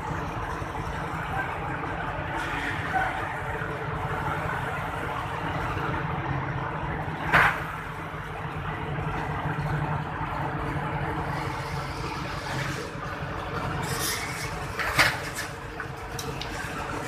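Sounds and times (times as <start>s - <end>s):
construction machinery running: 0.0s - 17.0s.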